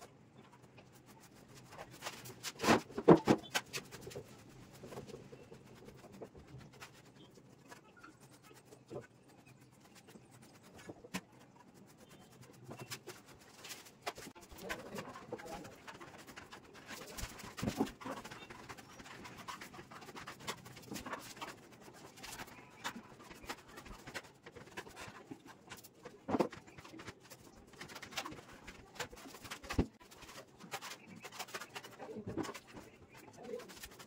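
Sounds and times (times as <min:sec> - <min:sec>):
sponge dabbing paint on wall: 0:00.0 - 0:34.0.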